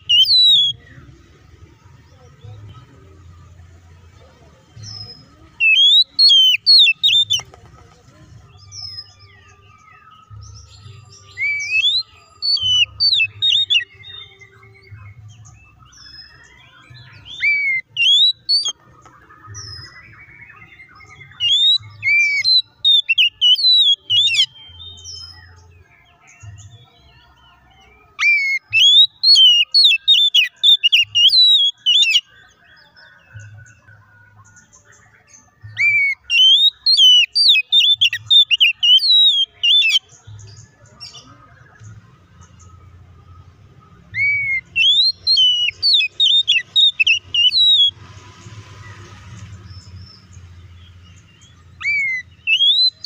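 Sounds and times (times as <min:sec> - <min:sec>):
bird singing whistled notes: 0:00.0 - 0:01.6, 0:04.8 - 0:07.5, 0:08.4 - 0:48.1, 0:49.6 - 0:53.0.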